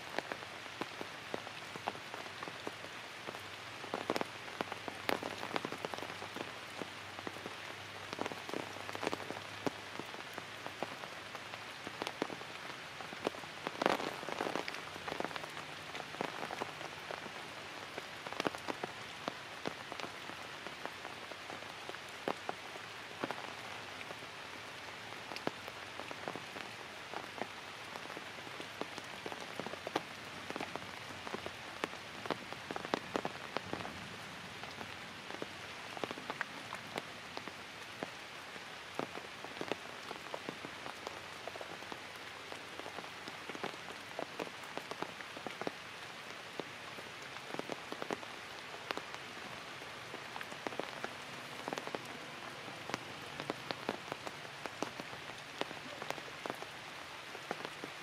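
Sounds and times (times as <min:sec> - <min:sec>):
light rain on leaves: 0:00.0 - 0:58.0.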